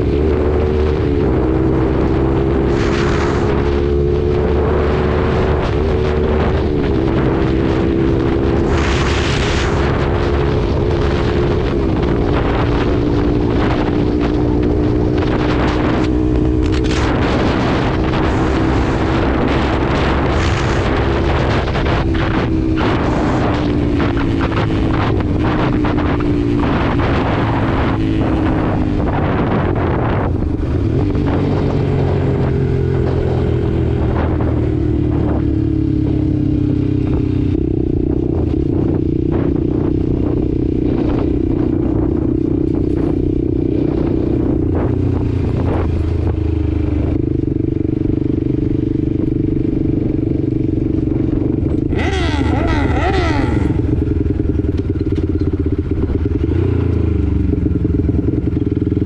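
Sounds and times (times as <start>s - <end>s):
motorcycle engine running: 0.0s - 59.0s
wind rush over microphone: 0.0s - 59.0s.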